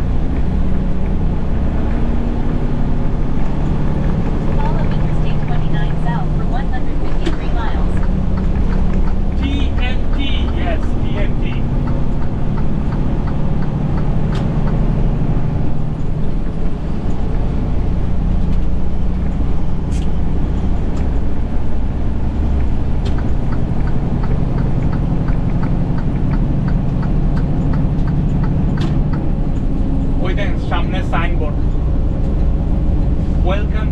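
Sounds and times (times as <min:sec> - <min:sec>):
truck engine and road noise: 0:00.0 - 0:33.9.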